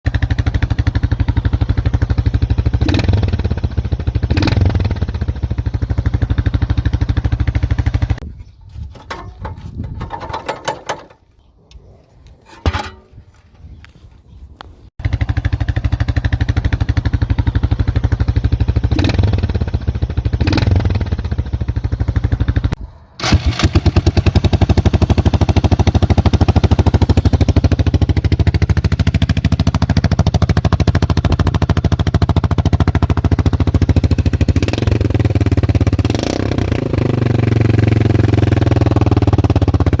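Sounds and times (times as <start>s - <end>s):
loud pulsing engine: 0.1s - 8.2s, 15.0s - 40.0s.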